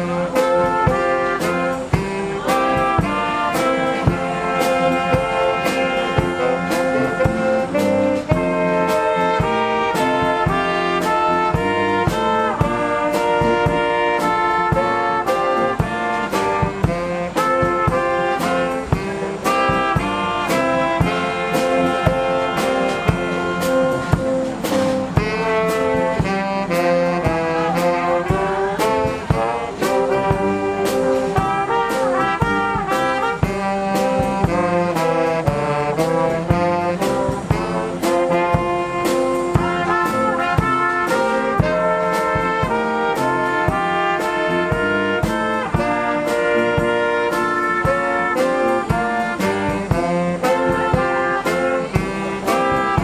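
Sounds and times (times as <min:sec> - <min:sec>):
brass band playing: 0:00.0 - 0:53.0.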